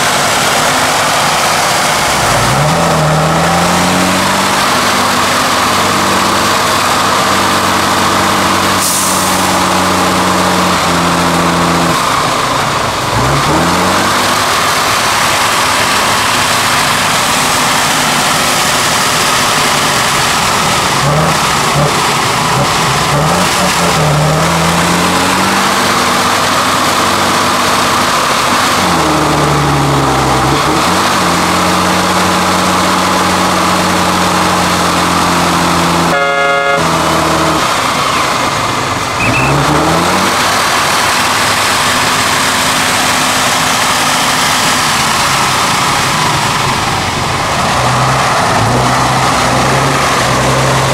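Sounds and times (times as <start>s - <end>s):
diesel truck engine under load: 0.0s - 50.9s.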